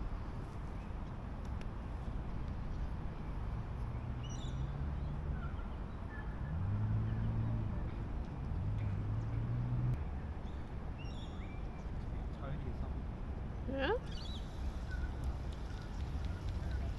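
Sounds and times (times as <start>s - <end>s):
outdoor background noise: 0.0s - 16.9s.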